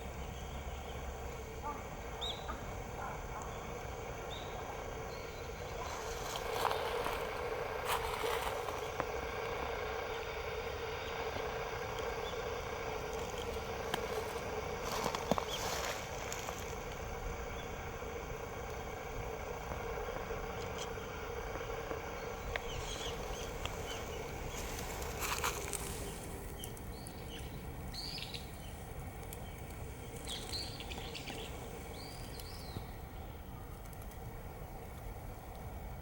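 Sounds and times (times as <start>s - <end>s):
camera electronic noise and hum: 0.0s - 36.0s
low outdoor rumble: 0.0s - 36.0s.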